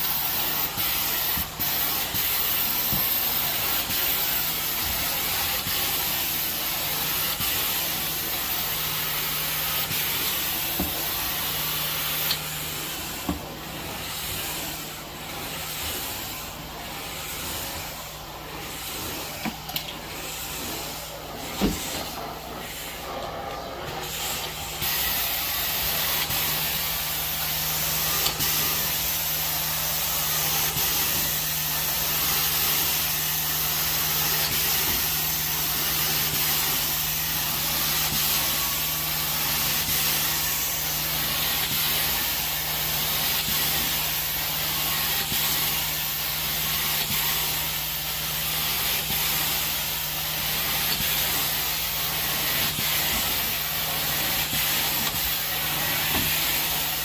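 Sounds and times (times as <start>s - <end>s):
carpet cleaning wand hissing: 0.0s - 57.0s.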